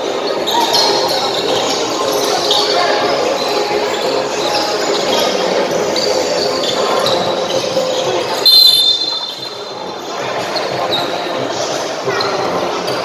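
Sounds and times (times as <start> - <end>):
crowd chatter: 0.0 - 13.0
sneakers squeaking on court floor: 0.1 - 11.4.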